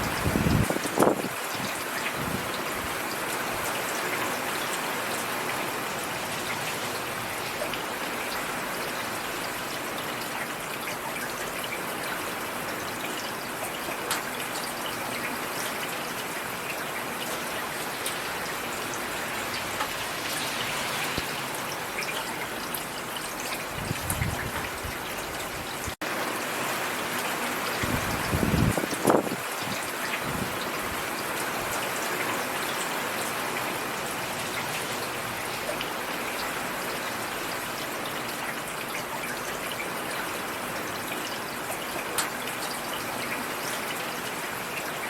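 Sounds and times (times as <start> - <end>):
steady rain pattering: 0.0 - 45.0.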